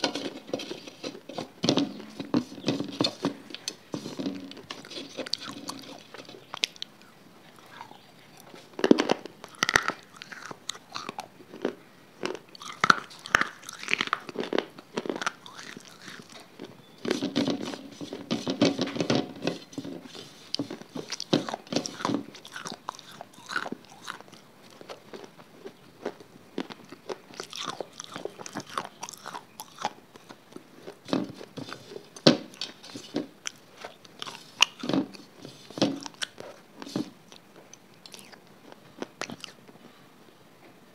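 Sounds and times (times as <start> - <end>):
person chewing and crunching: 3.0 - 18.1, 20.0 - 39.6.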